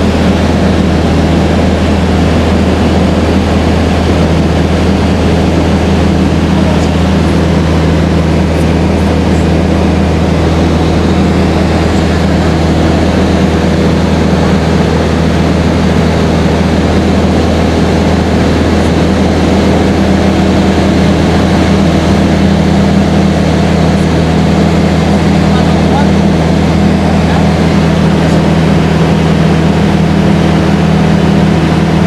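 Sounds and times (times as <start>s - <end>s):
airplane engine drone in cabin: 0.0s - 32.0s.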